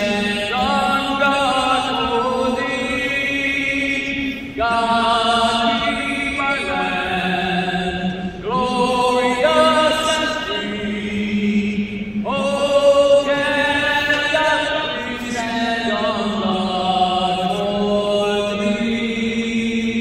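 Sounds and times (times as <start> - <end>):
person singing over loudspeakers: 0.0 - 20.0.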